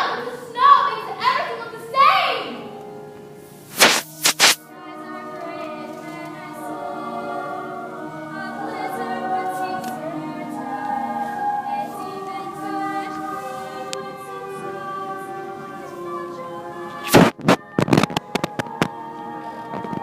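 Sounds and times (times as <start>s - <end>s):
chorus singing held notes: 3.8s - 20.0s.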